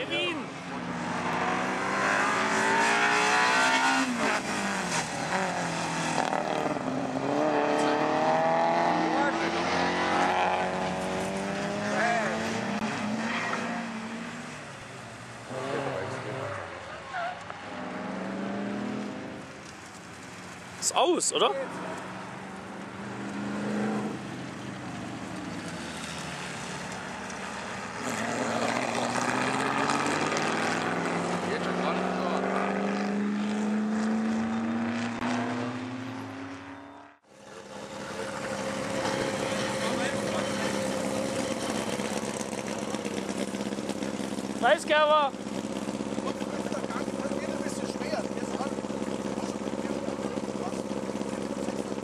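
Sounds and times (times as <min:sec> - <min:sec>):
car engine revving: 0:00.0 - 0:16.8, 0:17.5 - 0:20.6, 0:21.3 - 0:52.0.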